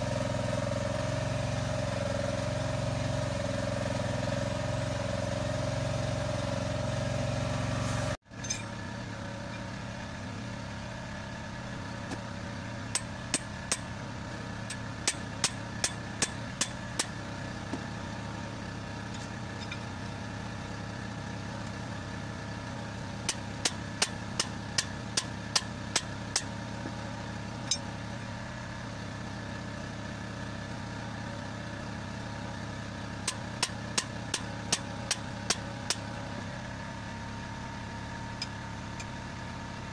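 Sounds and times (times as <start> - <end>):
engine-like hum: 0.0 - 39.9.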